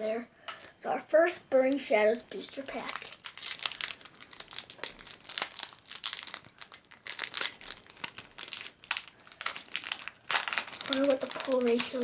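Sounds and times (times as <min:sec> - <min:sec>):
foil wrapper crinkling: 0:02.3 - 0:12.0.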